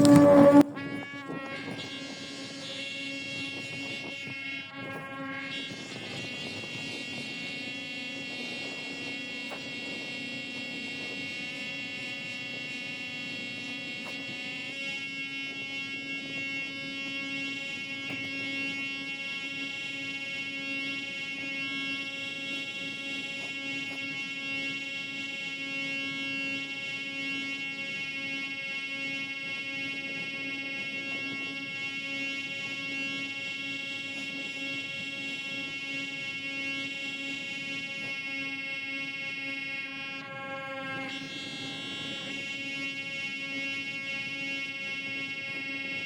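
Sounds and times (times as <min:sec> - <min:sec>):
kite buzzing drone: 0:00.0 - 0:46.0.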